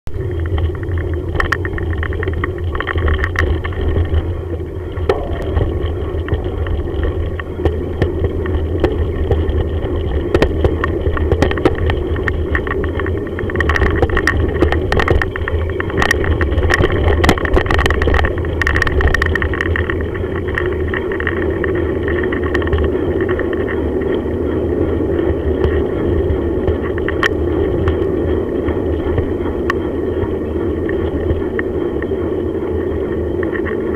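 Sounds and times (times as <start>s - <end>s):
bicycle tyres rumbling: 0.1s - 33.9s
bike clicks and rattles: 0.1s - 33.9s.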